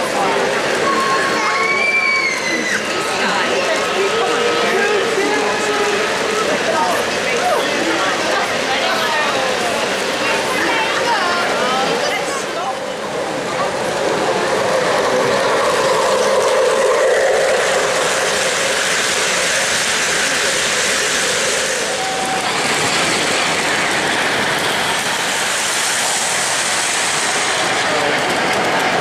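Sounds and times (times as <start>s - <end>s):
model train wheels rumbling on track: 0.0s - 29.0s.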